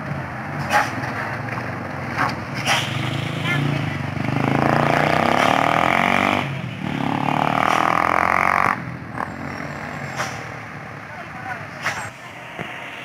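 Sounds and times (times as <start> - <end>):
vehicle engine pulling hard: 0.0 - 13.0.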